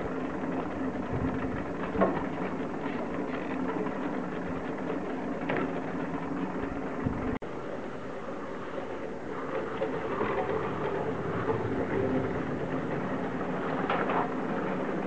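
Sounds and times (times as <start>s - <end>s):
ski lift mechanical hum: 0.0s - 15.0s.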